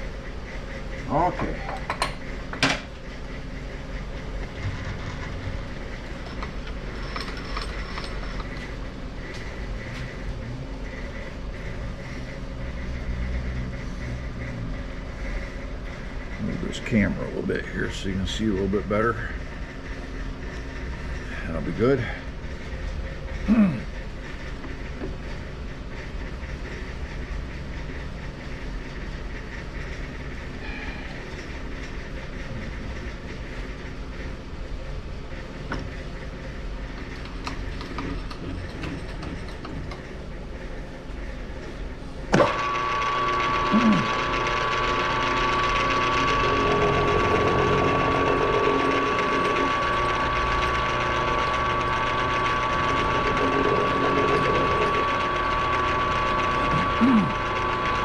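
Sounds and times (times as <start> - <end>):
machine high whine: 0.0 - 58.0
milling machine rumble: 0.0 - 58.0.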